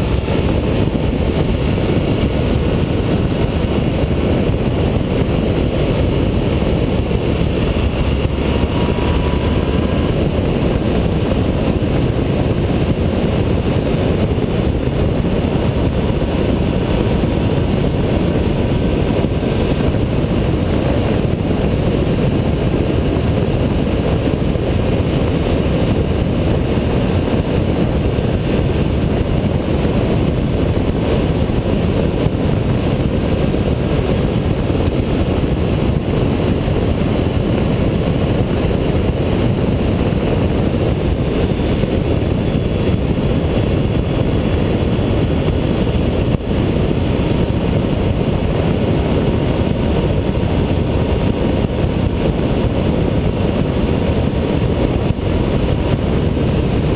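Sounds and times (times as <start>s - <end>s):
motorcycle engine drone: 0.0s - 56.9s
wind rushing on microphone: 0.0s - 56.9s.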